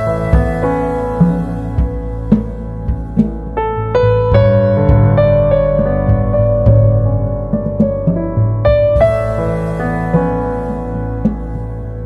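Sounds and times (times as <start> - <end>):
low bass notes: 0.0 - 12.0.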